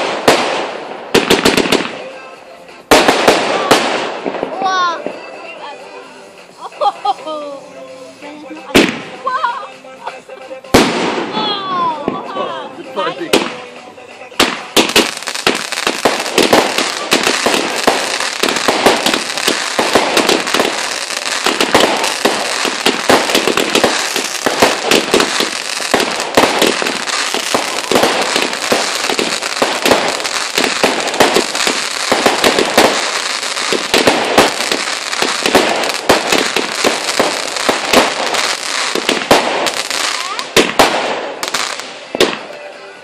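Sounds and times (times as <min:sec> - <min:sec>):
fireworks bangs: 0:00.0 - 0:05.5, 0:08.6 - 0:09.3, 0:10.6 - 0:12.4, 0:13.2 - 0:42.6
fireworks crackling: 0:00.0 - 0:43.0.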